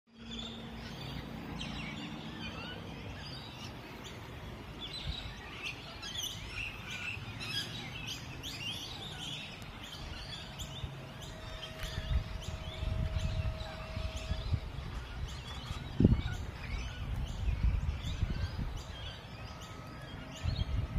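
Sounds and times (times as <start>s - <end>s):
birds chirping: 0.1s - 20.9s.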